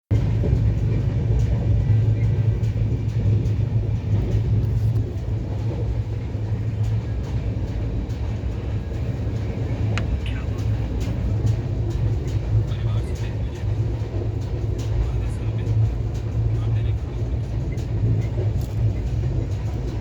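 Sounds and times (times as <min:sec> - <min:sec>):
passenger train rumbling: 0:00.1 - 0:20.0.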